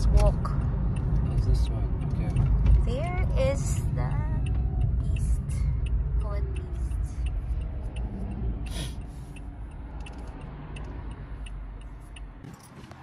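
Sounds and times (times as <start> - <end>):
road and engine rumble: 0.0 - 13.0
turn indicator ticking: 0.0 - 13.0.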